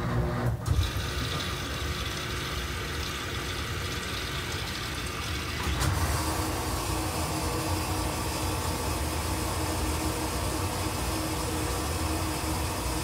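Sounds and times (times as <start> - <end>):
washing machine hum: 0.0 - 13.0
water rushing into drum: 0.6 - 13.0.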